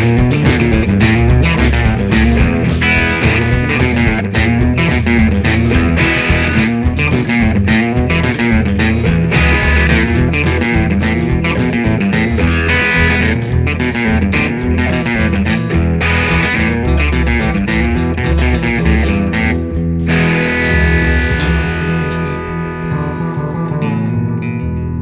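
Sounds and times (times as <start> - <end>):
electric guitar rock music: 0.0 - 25.0.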